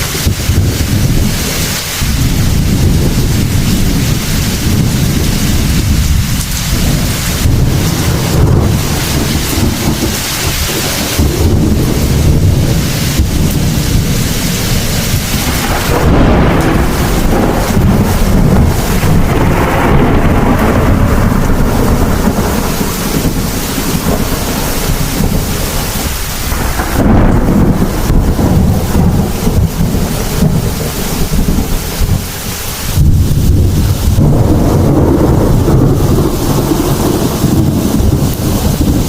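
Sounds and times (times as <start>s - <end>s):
heavy rain falling: 0.0s - 39.0s
rolling thunder: 0.0s - 39.0s.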